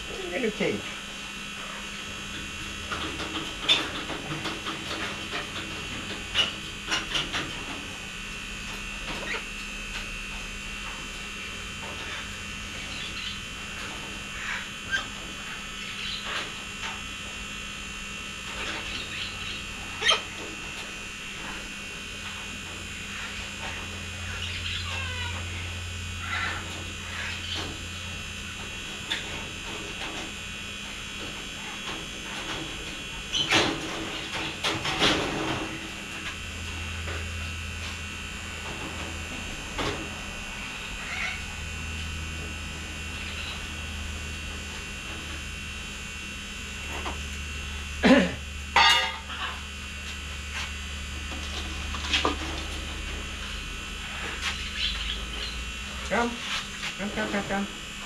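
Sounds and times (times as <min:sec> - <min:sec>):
steady electrical hum: 0:00.0 - 0:58.0.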